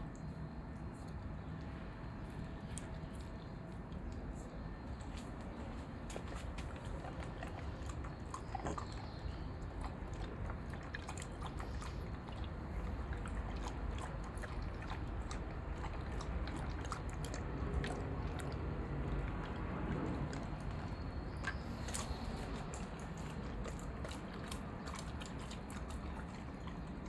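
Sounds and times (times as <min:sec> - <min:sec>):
dog chewing and eating: 0:00.2 - 0:27.0.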